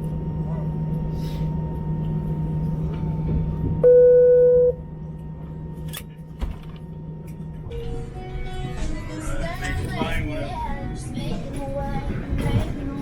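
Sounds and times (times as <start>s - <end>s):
airliner cabin air hum: 0.0s - 13.0s.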